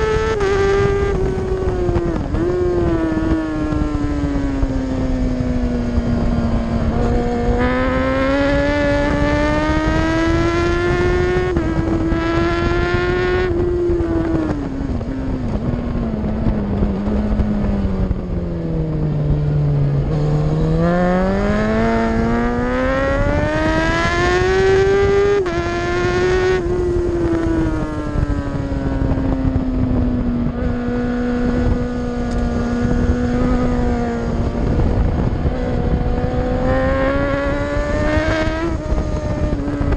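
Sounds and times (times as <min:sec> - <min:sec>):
superbike engine at high revs: 0:00.0 - 0:39.9
wind rush: 0:00.0 - 0:39.9.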